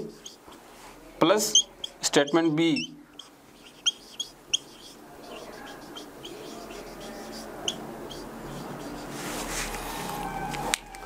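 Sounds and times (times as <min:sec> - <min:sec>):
marker squeaking on whiteboard: 0:00.0 - 0:00.7, 0:01.4 - 0:10.7.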